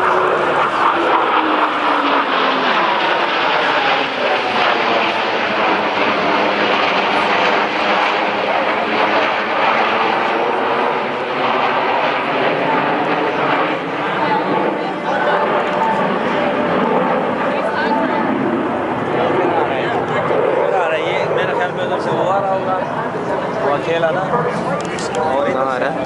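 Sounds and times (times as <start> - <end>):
jets roaring in low pass: 0.0 - 26.0.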